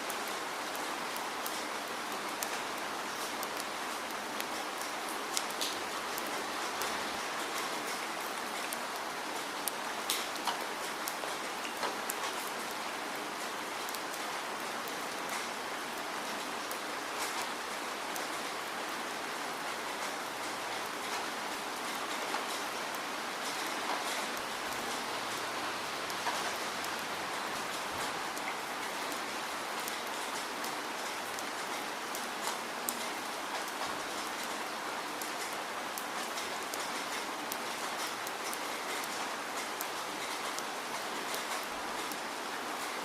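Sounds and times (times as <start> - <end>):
raindrops ticking close by: 0.0 - 43.0
steady rainfall: 0.0 - 43.0.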